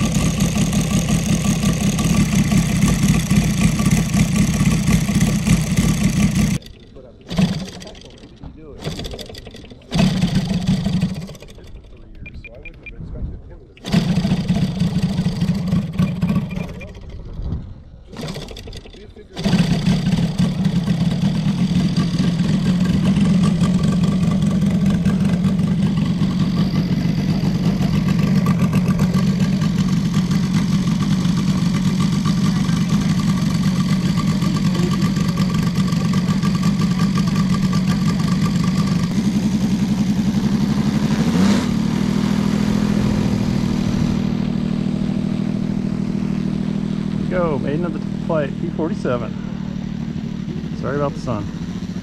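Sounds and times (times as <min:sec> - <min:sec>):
model plane engine idling: 0:00.0 - 0:12.8, 0:13.8 - 0:52.0
engine throttle blip: 0:00.0 - 0:52.0.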